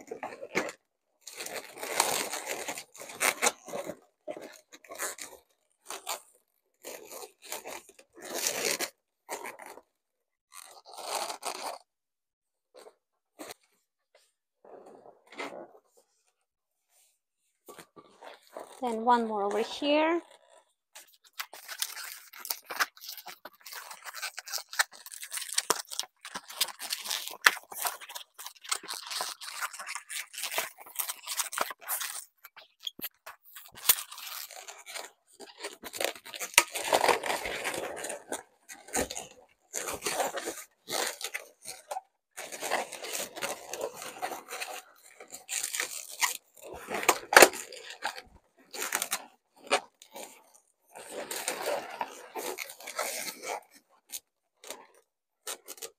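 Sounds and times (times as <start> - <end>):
rubber balloons rubbing and crinkling: 0.0 - 12.0, 12.7 - 55.9.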